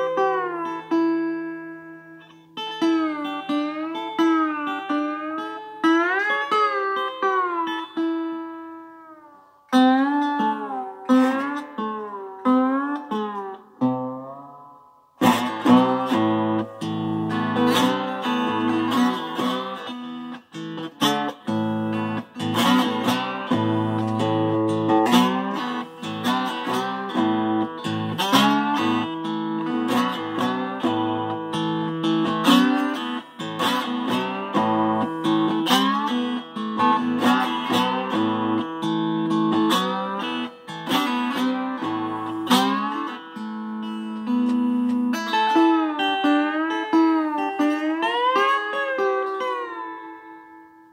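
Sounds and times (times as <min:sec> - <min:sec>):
electric guitar playing: 0:00.0 - 0:50.9.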